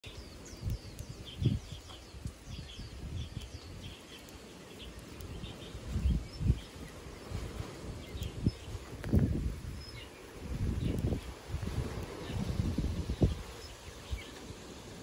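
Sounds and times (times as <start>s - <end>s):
finches chirping: 0.0s - 9.1s, 9.7s - 11.3s, 12.1s - 14.6s.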